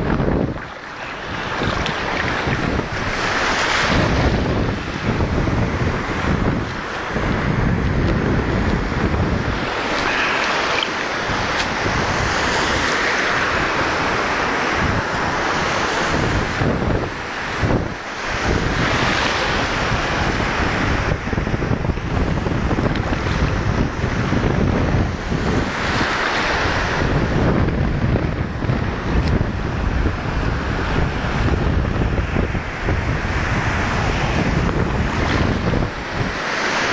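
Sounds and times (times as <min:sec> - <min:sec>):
small waves washing in surf: 0:00.0 - 0:36.9
wind buffeting microphone: 0:00.0 - 0:36.9.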